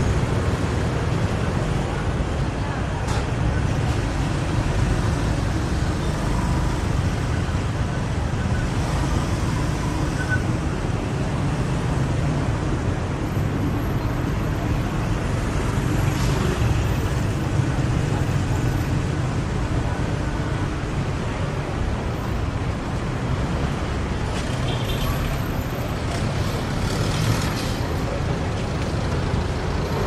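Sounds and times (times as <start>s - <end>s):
street traffic of cars and motorbikes: 0.0s - 30.0s.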